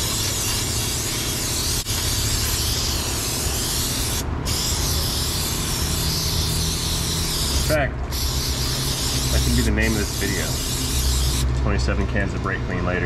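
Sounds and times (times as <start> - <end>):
aerosol spraying: 0.0 - 11.4.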